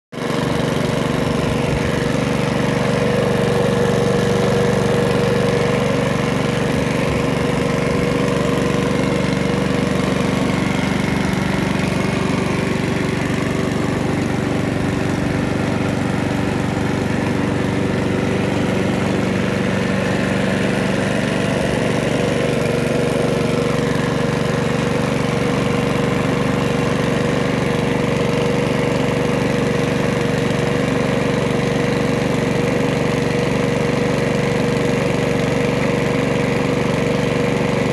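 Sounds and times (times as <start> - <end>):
lawnmower engine running: 0.1 - 37.9.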